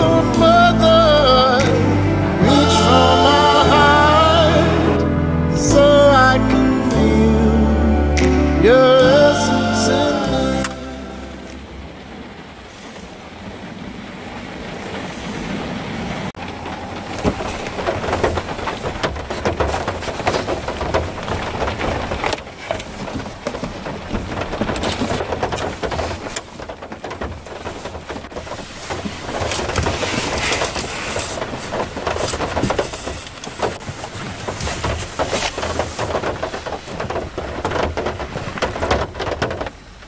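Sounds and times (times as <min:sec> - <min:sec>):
heavy rain on hard surface: 0:00.0 - 0:40.0.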